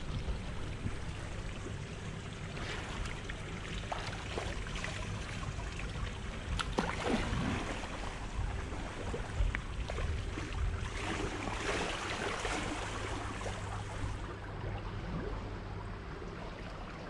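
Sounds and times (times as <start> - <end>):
pool water splashing: 0.0 - 17.0.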